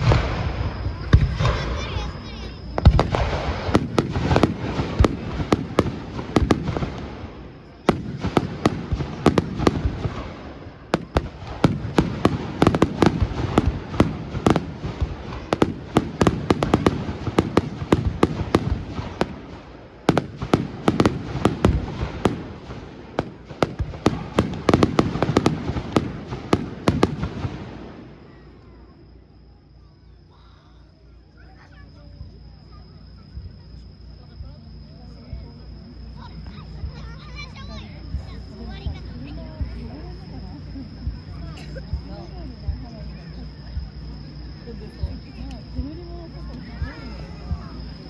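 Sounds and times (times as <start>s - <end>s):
fireworks bangs and crackling: 0.0s - 29.4s, 32.2s - 48.0s.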